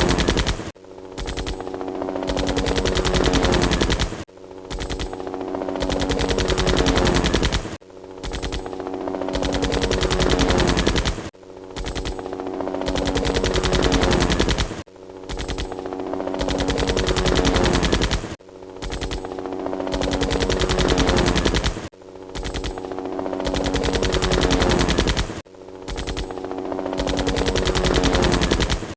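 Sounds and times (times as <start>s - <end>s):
helicopter rotor blades chopping: 0.0s - 28.9s.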